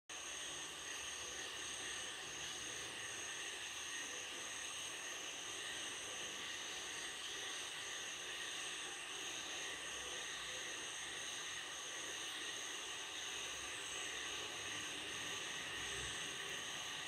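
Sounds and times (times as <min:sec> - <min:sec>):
insects trilling: 0:00.2 - 0:17.0.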